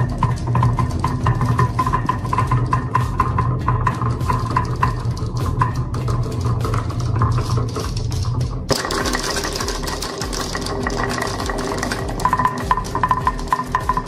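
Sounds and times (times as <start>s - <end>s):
marbles clacking down wooden run: 0.0s - 14.0s
steady low hum: 0.0s - 14.0s.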